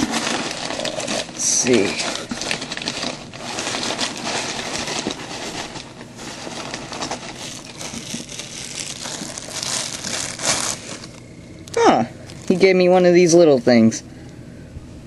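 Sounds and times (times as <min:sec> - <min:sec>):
packing paper rustling and crinkling: 0:00.0 - 0:13.1.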